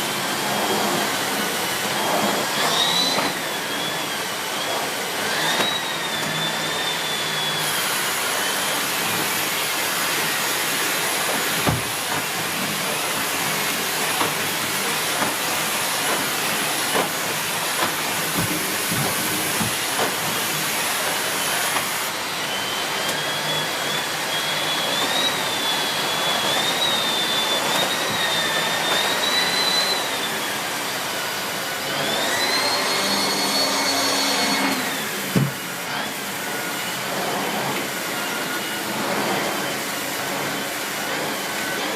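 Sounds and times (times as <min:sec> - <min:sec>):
vacuum cleaner motor whining: 0:00.0 - 0:41.9.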